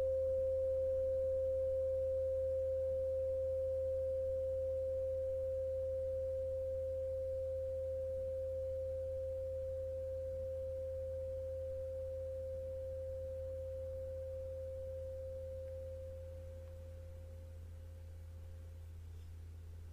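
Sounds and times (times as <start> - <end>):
low steady hum: 0.0 - 19.9
steady pure sine tone: 0.0 - 19.9.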